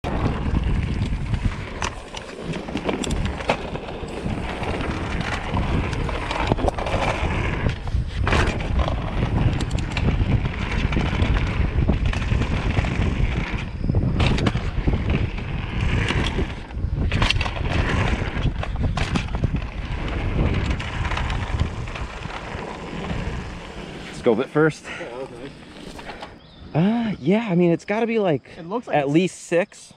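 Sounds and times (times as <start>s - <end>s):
bike knocking and rattling: 0.0s - 26.4s
tyres rumbling on dirt: 0.0s - 27.2s
wind on microphone: 0.0s - 27.2s.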